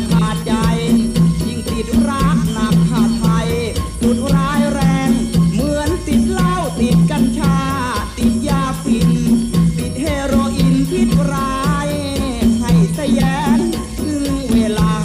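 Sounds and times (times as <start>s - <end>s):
gliding melody over bass and drums: 0.0s - 15.0s
rattling percussion: 0.0s - 15.0s.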